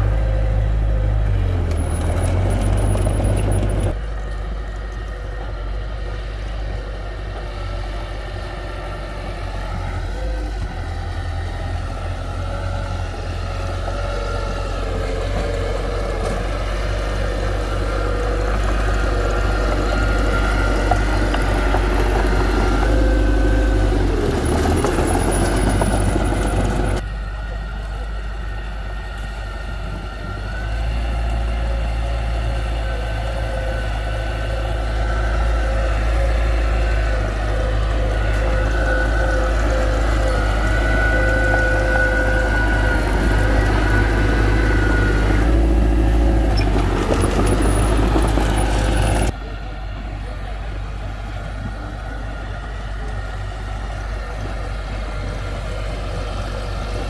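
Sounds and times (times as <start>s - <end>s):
heavy machinery diesel engine running: 0.0s - 57.0s.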